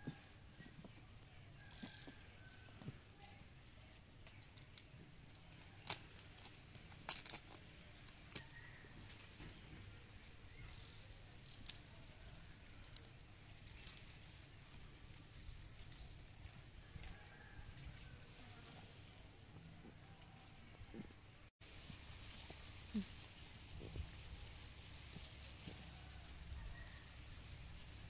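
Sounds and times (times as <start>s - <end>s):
dry bamboo twigs crackling: 1.6s - 19.4s, 20.0s - 28.0s.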